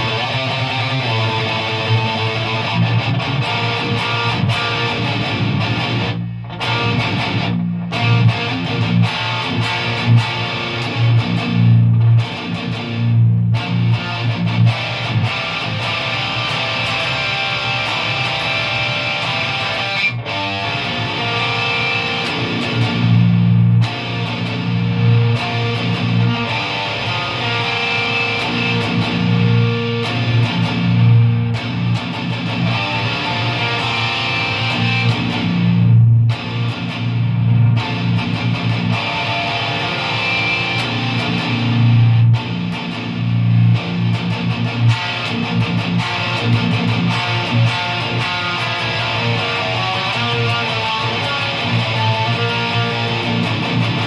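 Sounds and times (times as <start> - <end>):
distorted electric guitar riffs: 0.0 - 54.0.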